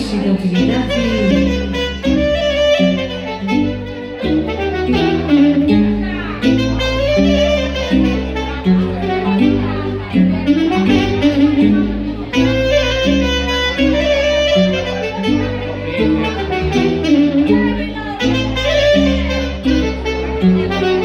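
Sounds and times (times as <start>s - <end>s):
amplified keyboard backing: 0.0s - 21.0s
saxophone melody: 0.0s - 21.0s
steady bass line: 0.0s - 21.0s.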